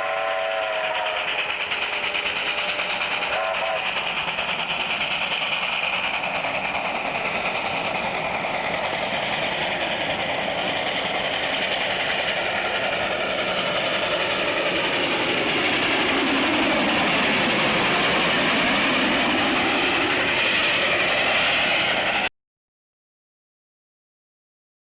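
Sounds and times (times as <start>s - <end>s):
train rolling: 0.0s - 22.3s.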